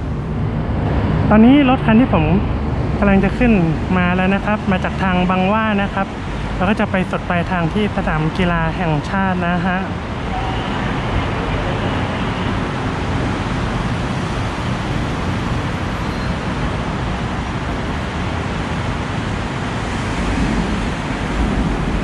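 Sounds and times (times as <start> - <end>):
city road traffic hum: 0.0 - 22.0.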